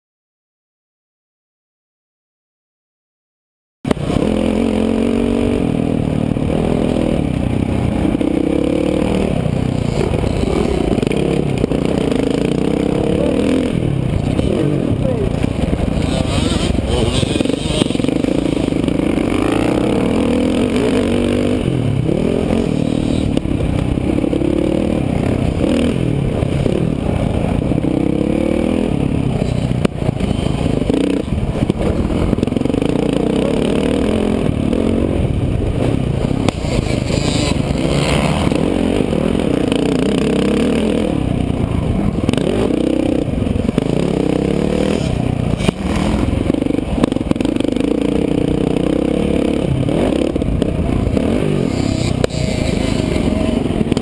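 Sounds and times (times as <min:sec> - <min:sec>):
dirt bike engine revving: 0:03.9 - 0:54.0.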